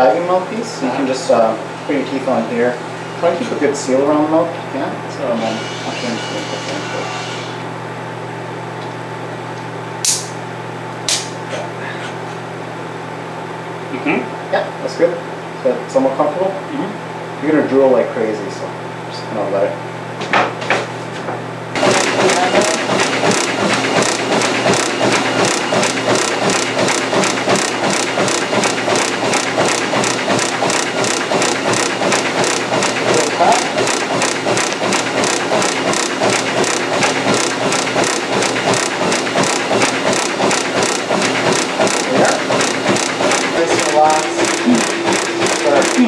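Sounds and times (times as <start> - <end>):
low hum of lab equipment: 0.0 - 46.0.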